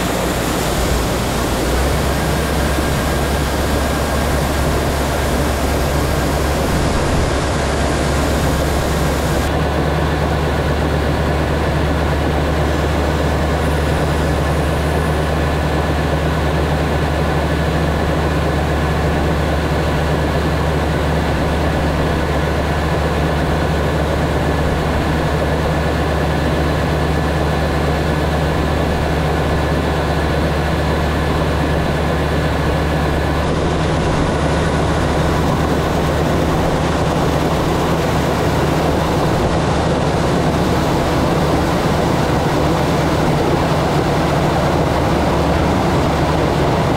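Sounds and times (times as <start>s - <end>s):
diesel engine low drone: 0.0s - 46.9s.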